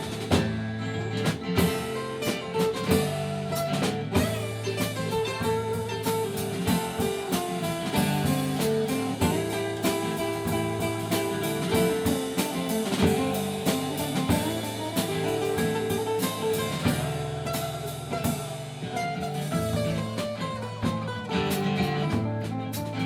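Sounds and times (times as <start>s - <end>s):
bass guitar: 0.0s - 23.0s
drum kit beat: 0.0s - 23.0s
electric guitar: 0.0s - 23.0s.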